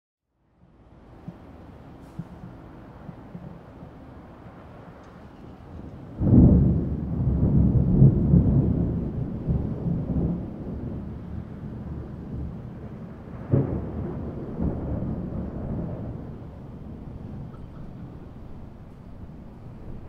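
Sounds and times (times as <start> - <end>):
distant thunder clap and rumble: 0.9 - 20.0.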